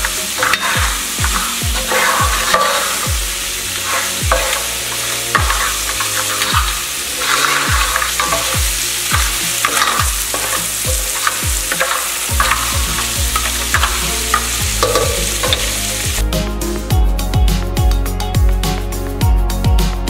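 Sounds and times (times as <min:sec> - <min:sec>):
food sizzling in butter: 0:00.0 - 0:16.2
spoon scraping a pan: 0:00.0 - 0:16.2
background music with a beat: 0:00.0 - 0:20.0.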